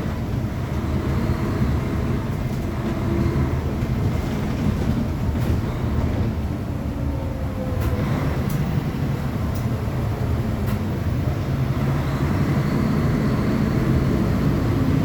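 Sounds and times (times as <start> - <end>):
bus diesel engine rumbling: 0.0 - 15.0.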